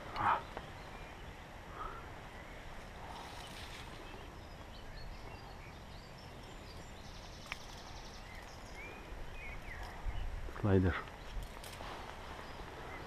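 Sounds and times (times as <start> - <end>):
steady low hiss: 0.0 - 13.0
bird chirps: 0.1 - 11.4.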